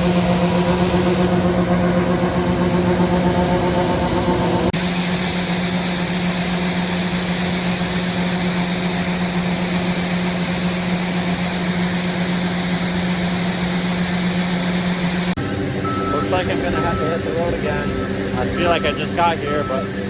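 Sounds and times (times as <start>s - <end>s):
farm machinery engine humming: 0.0s - 20.0s.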